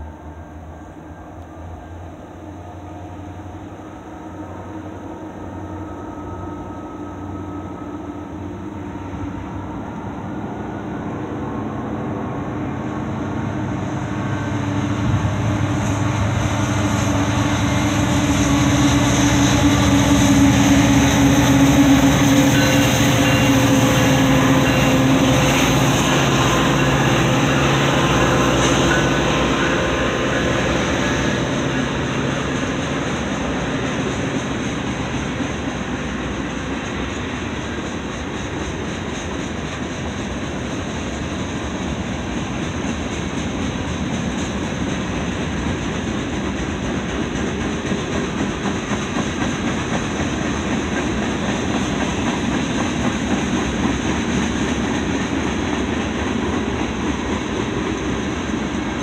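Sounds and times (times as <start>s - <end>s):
diesel locomotive engines: 0.0s - 59.0s.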